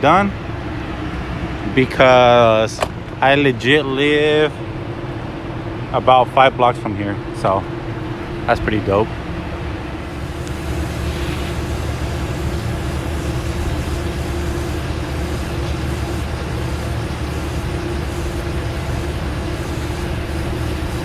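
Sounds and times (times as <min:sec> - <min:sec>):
machinery rumbling and humming: 0:00.0 - 0:21.0.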